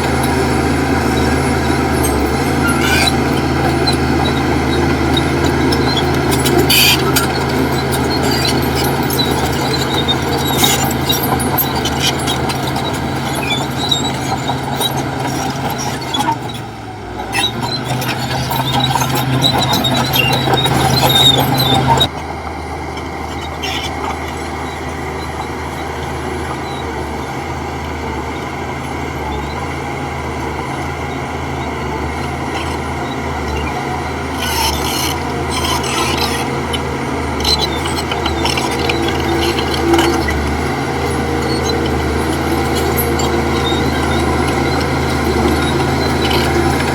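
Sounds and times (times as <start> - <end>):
bulldozer engine running: 0.0 - 46.9
tracks squealing and scraping: 0.0 - 46.9.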